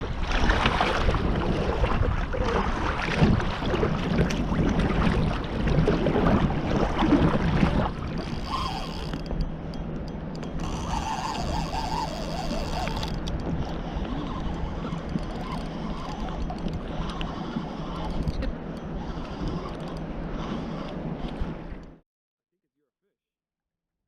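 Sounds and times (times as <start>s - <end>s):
wind buffeting microphone: 0.0s - 21.9s
water sloshing around kayak: 0.0s - 22.0s.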